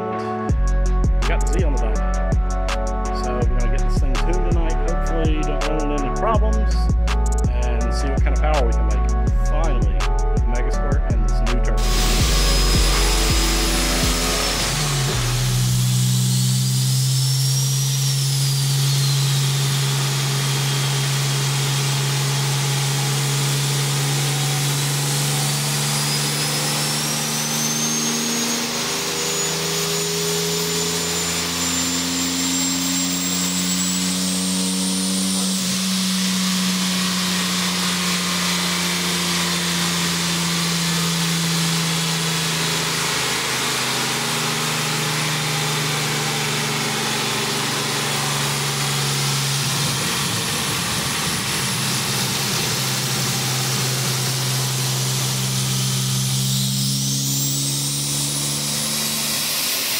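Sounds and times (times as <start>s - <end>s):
car engine humming on dyno: 0.0s - 59.9s
thin high whine: 0.0s - 59.9s.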